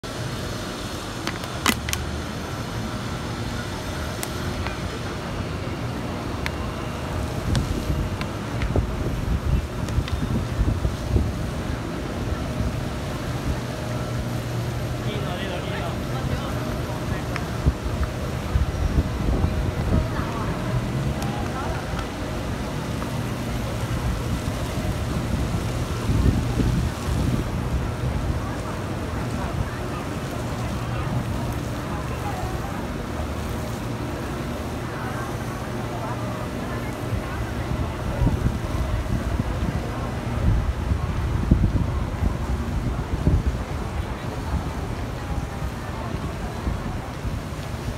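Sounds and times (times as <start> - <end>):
city traffic rumble: 0.0 - 47.9
faint steady whines: 0.0 - 47.9.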